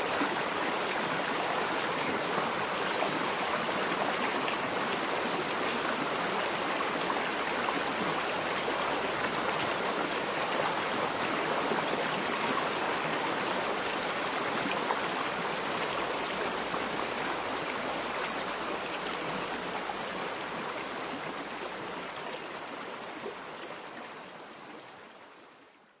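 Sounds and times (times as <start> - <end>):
river flowing: 0.0 - 25.5.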